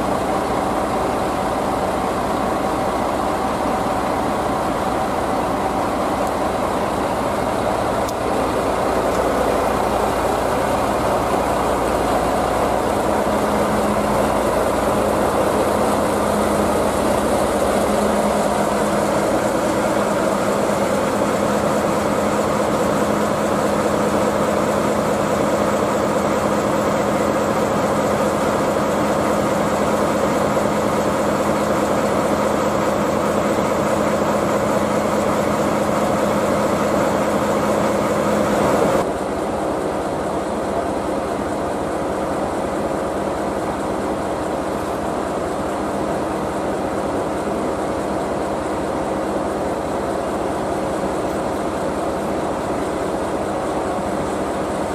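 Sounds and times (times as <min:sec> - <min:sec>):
diesel locomotive engine idling: 0:00.0 - 0:54.9.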